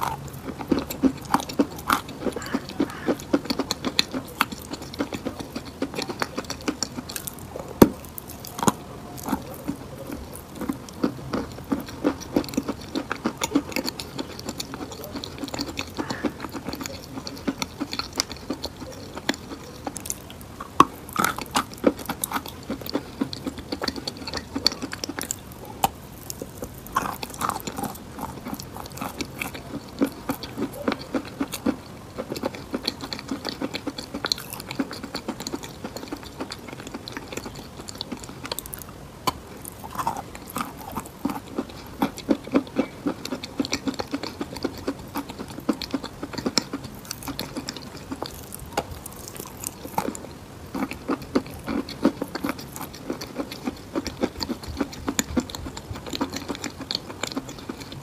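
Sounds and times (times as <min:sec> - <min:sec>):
chewing chalk crunches: 0:00.0 - 0:58.0.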